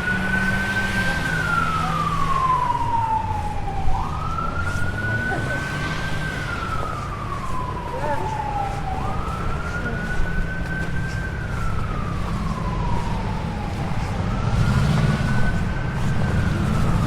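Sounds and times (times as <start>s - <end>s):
emergency vehicle siren wailing: 0.0s - 17.0s
street traffic engine hum: 0.0s - 17.0s.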